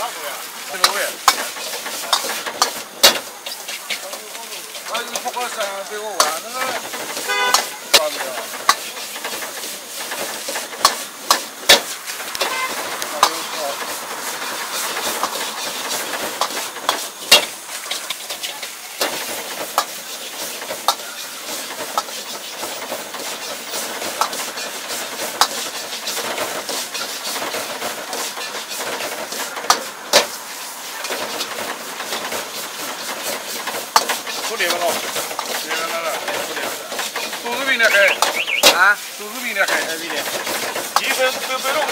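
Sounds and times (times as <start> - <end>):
ladle clanking and scraping wok: 0.0 - 41.9
rice frying in a wok: 0.0 - 41.9.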